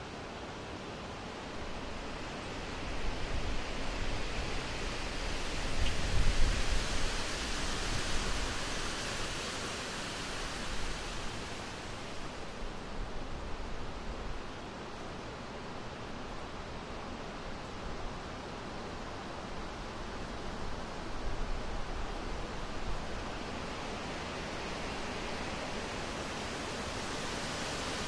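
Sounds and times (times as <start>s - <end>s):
steady rushing hiss: 0.0s - 28.0s.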